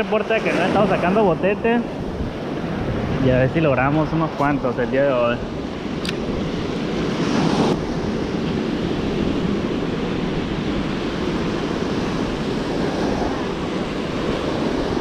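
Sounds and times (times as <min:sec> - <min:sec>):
small waves breaking on beach: 0:00.0 - 0:15.0
wind rumbling on microphone: 0:00.0 - 0:15.0.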